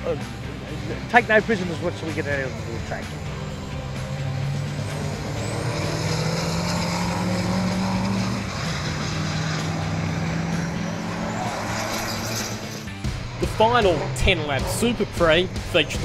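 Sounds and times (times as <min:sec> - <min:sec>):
diesel truck engines running: 0:00.0 - 0:16.0.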